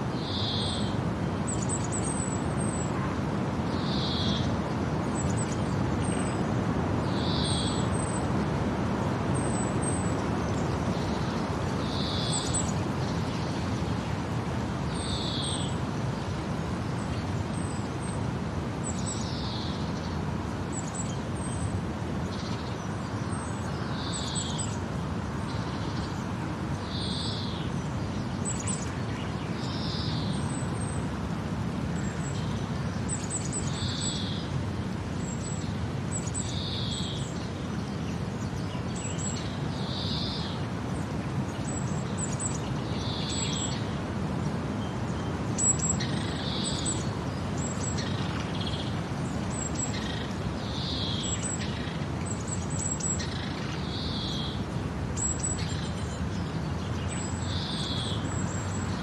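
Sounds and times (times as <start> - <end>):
low background noise: 0.0 - 59.0.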